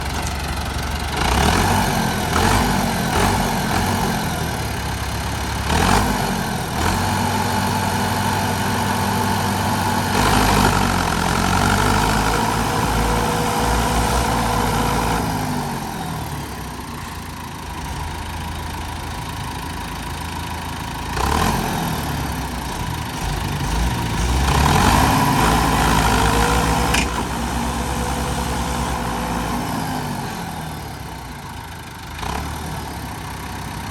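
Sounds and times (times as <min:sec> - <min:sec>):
tractor engine revving: 0:00.0 - 0:33.9.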